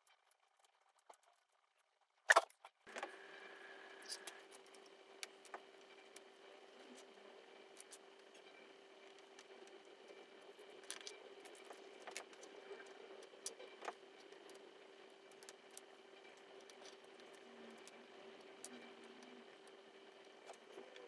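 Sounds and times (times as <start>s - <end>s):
faint steady hum: 2.9s - 21.0s.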